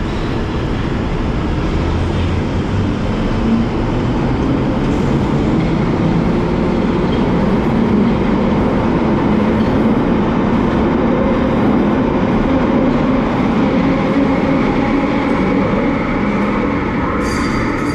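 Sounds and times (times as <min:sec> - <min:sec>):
underground train rumbling: 0:00.0 - 0:17.9.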